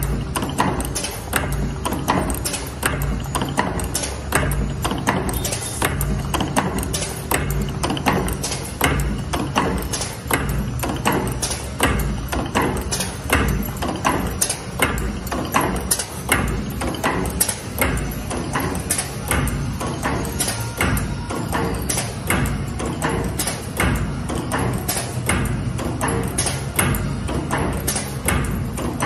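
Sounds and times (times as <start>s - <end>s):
metallic clacks of forming tools: 0.0s - 29.0s.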